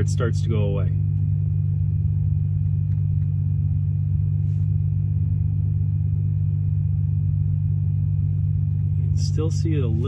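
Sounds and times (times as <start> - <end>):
deep test tone hum from subwoofer: 0.0 - 10.0.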